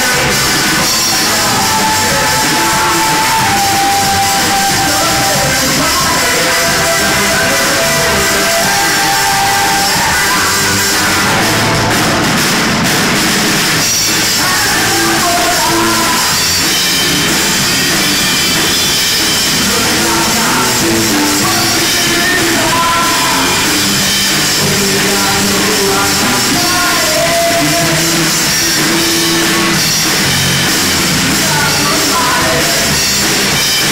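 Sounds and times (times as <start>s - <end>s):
drum kit: 0.0s - 33.9s
electric guitar: 0.0s - 33.9s.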